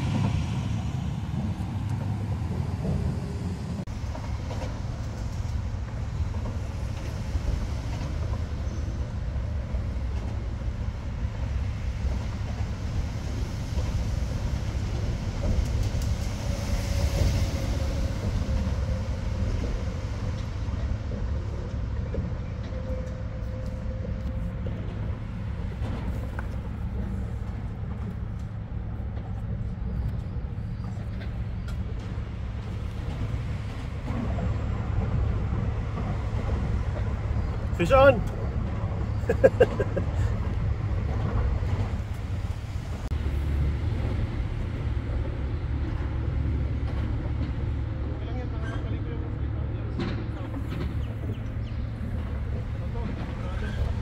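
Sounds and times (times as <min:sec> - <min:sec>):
low rumble of road traffic: 0:00.0 - 0:54.0.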